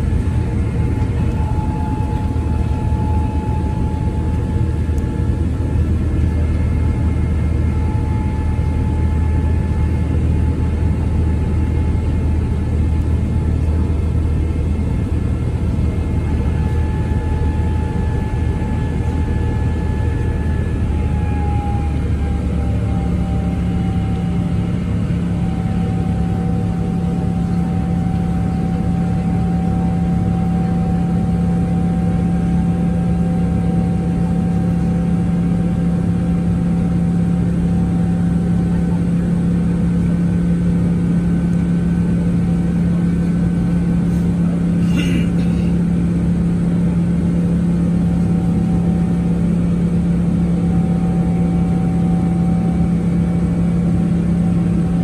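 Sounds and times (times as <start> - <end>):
airplane cabin drone: 0.0 - 55.0
faint steady whine tones: 0.0 - 55.0.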